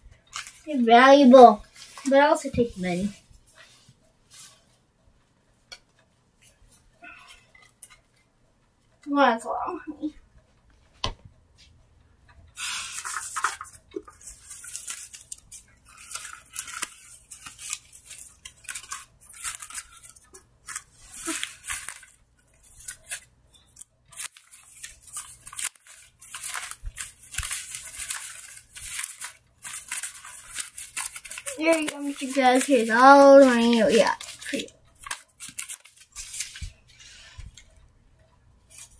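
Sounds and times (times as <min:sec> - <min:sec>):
rustling and scraping handling noises: 0:00.1 - 0:09.1, 0:12.6 - 0:37.8.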